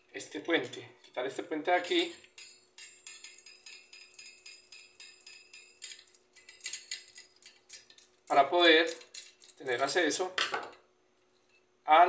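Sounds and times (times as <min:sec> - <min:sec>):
small metal parts clicking: 0:00.4 - 0:11.6.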